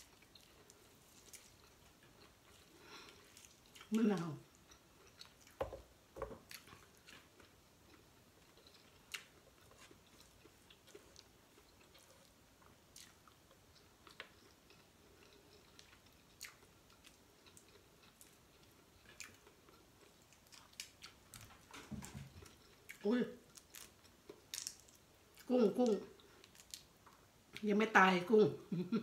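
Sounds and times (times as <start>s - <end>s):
chewing: 0.0s - 5.8s, 6.4s - 27.6s.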